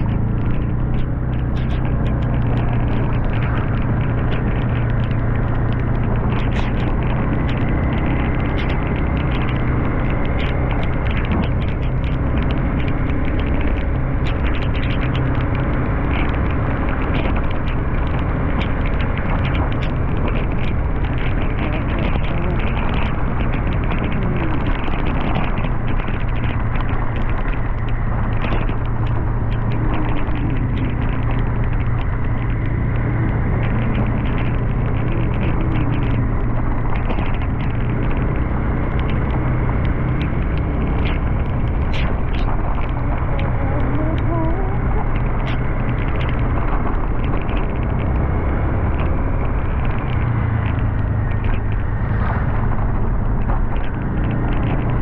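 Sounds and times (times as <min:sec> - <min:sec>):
motorcycle engine running: 0:00.0 - 0:55.0
road and air noise: 0:00.0 - 0:55.0.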